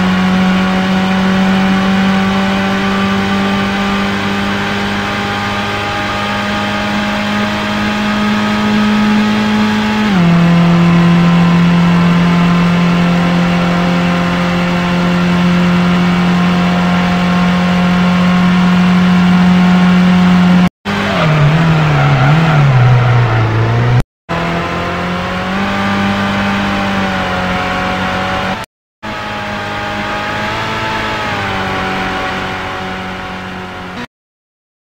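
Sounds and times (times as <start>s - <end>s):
car engine droning: 0.0s - 34.1s.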